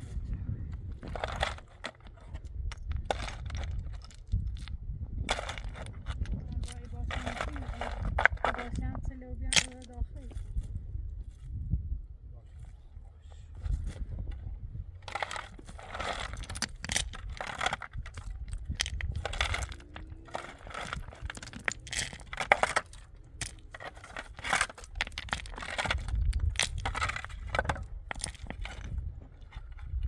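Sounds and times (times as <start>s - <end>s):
wind rumble on microphone: 0.0s - 30.0s
things clinking and crunching: 0.9s - 10.0s, 15.0s - 30.0s.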